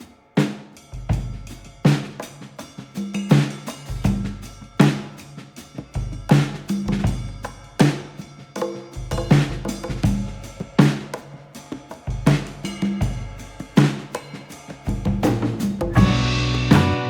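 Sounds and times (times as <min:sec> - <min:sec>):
music with drum kit beat: 0:00.0 - 0:17.0.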